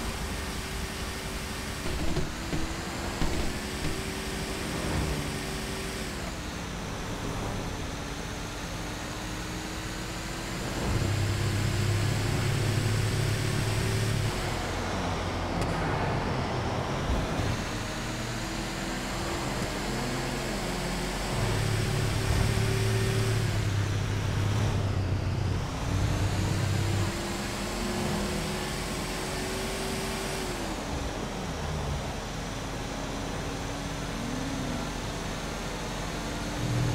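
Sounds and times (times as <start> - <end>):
road noise: 0.0 - 36.9
vehicle engine running: 0.0 - 36.9.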